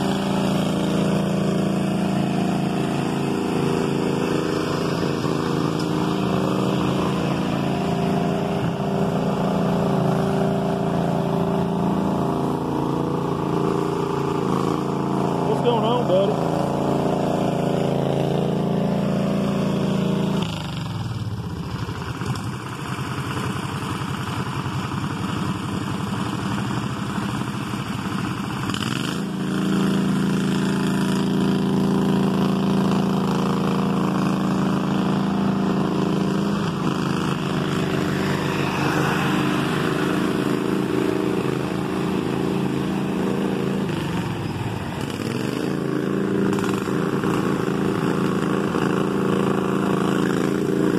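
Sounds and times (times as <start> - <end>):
tractor engines running hard: 0.0 - 50.9
tractors churning through mud: 0.0 - 50.9.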